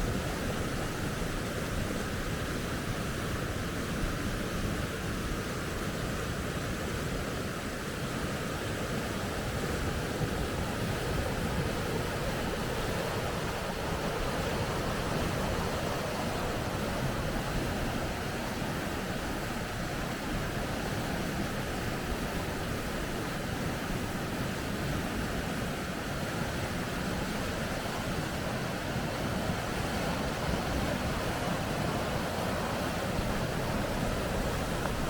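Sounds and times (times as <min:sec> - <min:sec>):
water rushing over rapids: 0:00.0 - 0:35.0.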